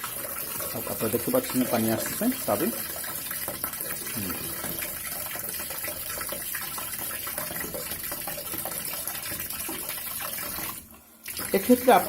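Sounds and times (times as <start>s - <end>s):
water gushing into tub: 0.0s - 12.0s.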